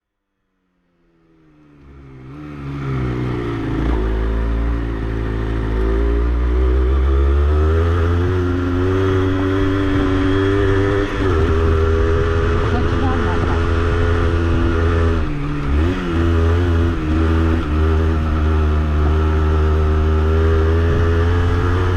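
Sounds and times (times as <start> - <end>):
motorcycle two-stroke engine running: 1.9 - 21.9.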